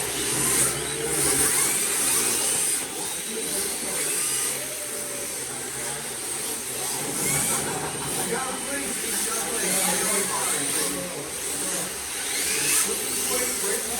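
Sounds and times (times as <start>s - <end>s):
faint background voices: 0.0s - 13.9s
small electric motors whining: 0.0s - 13.9s.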